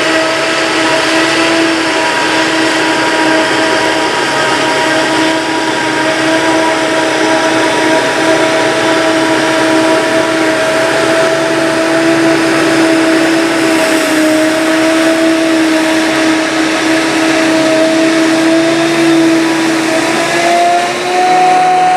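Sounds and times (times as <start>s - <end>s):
harvesting machinery running: 0.0s - 21.9s
high machine whine: 0.0s - 21.9s.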